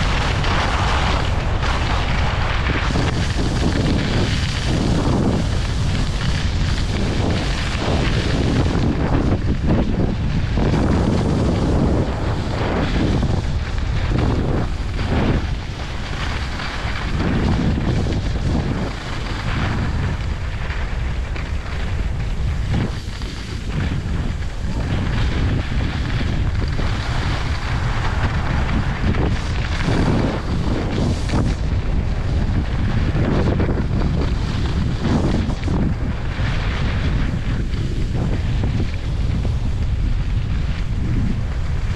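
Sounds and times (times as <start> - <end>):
skis scraping over snow: 0.0 - 41.9
wind rushing over microphone: 0.0 - 41.9.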